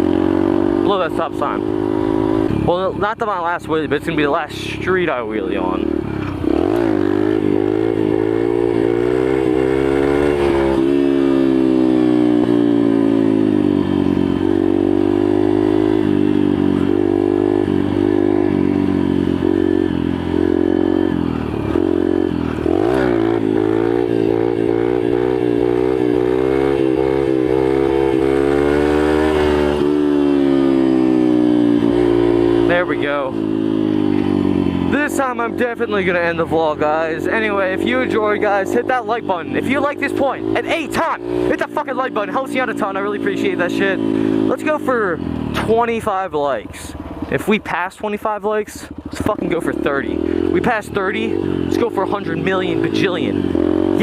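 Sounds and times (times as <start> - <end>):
motorbike engine accelerating: 0.0 - 54.0.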